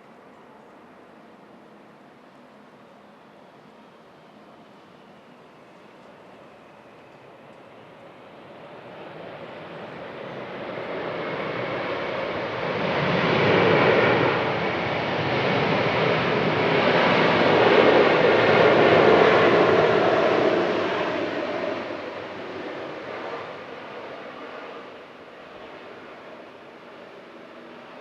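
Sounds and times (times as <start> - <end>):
jet airliner passing: 2.5 - 28.0.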